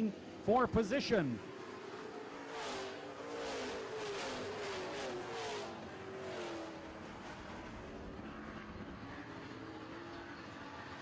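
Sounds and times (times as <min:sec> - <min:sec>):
racing trucks engines at full throttle: 0:00.0 - 0:11.0.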